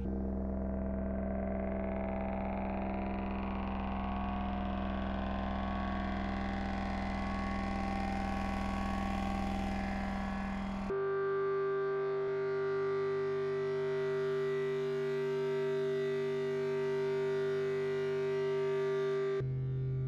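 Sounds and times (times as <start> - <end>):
electronic drone music: 0.0 - 19.6.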